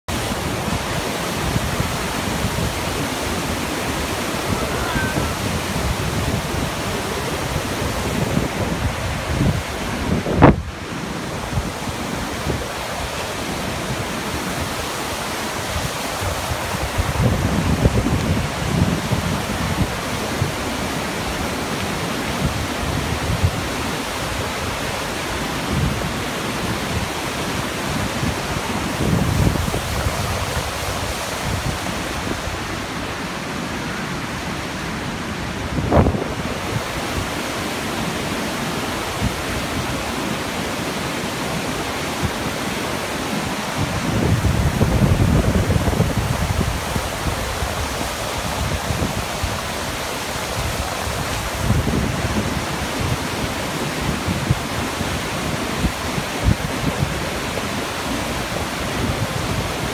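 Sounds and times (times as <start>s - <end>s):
wind buffeting microphone: 0.1s - 40.2s, 40.8s - 59.9s
whitewater rushing over boulders: 0.1s - 59.9s.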